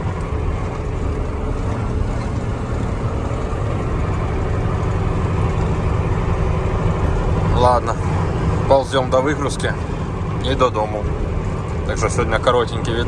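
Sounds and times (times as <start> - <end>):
road noise: 0.0 - 13.0
truck diesel engine droning: 0.0 - 13.0.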